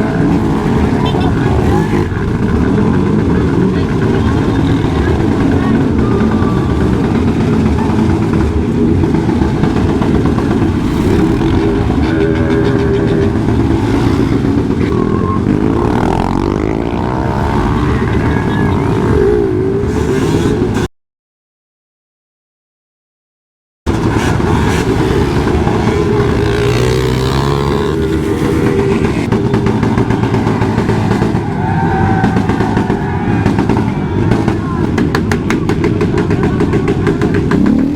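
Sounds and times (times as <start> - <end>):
motorcycle engines running: 0.0 - 20.9, 23.9 - 37.9.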